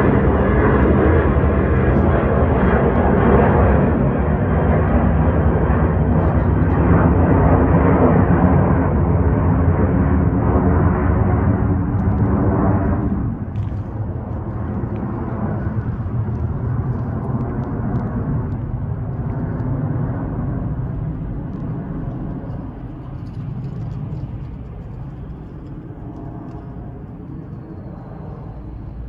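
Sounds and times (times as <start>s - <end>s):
jet engines deep rumble: 0.0s - 29.0s.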